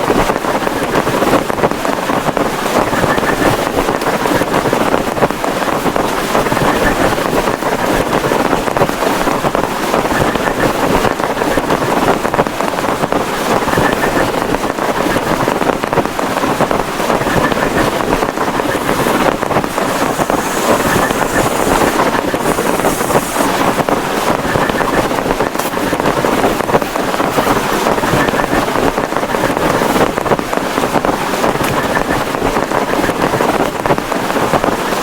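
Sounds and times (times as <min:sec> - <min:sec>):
heavy rain on plastic tarpaulin: 0:00.0 - 0:35.0.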